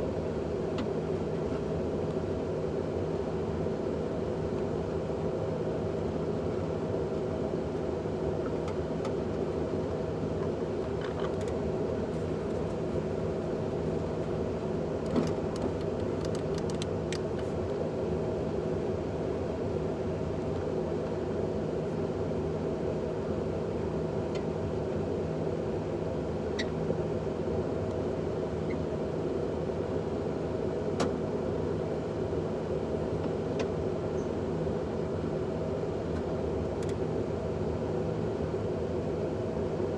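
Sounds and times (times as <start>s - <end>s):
vehicle running hum: 0.0s - 39.9s.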